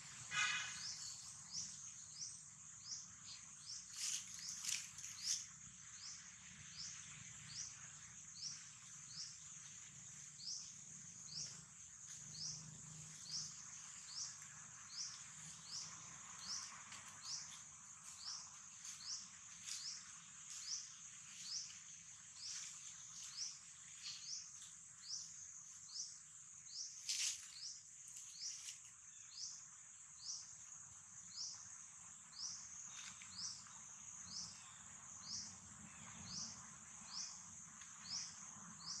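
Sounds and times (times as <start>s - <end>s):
high insect drone: 0.0s - 39.0s.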